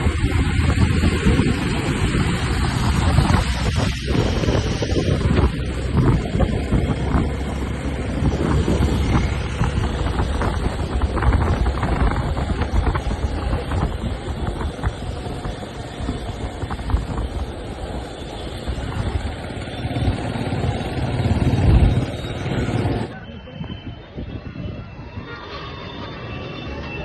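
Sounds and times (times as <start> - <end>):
motorcycle engine: 0.0 - 23.1
wind buffeting microphone: 0.0 - 25.9
road noise: 0.0 - 27.0.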